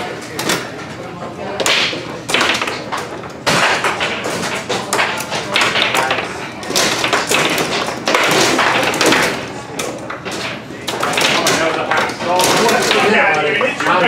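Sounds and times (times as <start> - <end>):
foosball clacks and knocks: 0.0 - 14.0
foosball rods jerked and spun: 0.0 - 14.0.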